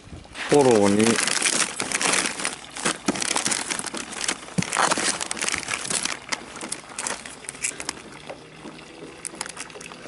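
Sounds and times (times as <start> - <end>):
plastic bags crinkling: 0.4 - 8.4, 9.0 - 10.0.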